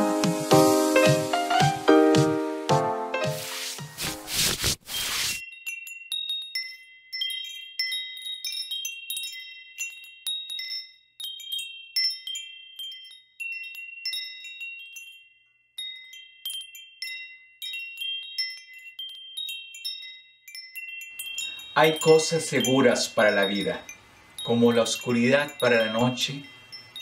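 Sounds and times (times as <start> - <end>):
chimes tinkling: 4.9 - 27.0.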